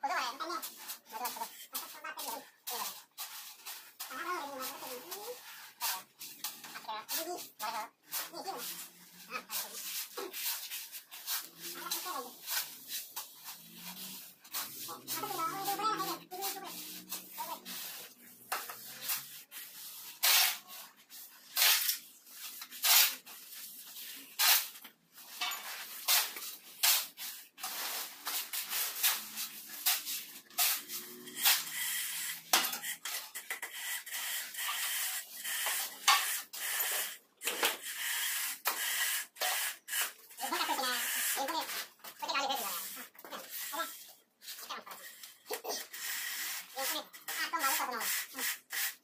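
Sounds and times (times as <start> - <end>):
tools scraping mortar: 0.3 - 49.0.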